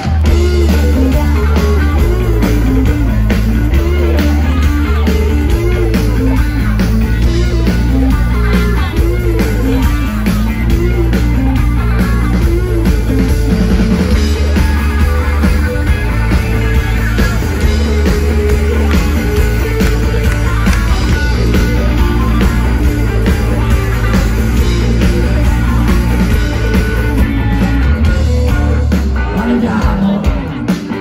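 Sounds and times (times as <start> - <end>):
heavy bass: 0.0 - 31.0
rock band playing live: 0.0 - 31.0.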